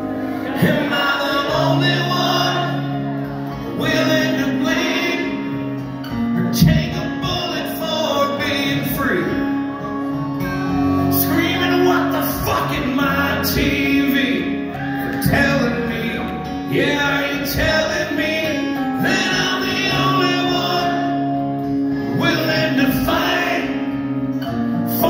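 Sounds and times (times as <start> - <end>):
person singing: 0.0 - 24.0
acoustic guitars: 0.0 - 25.0.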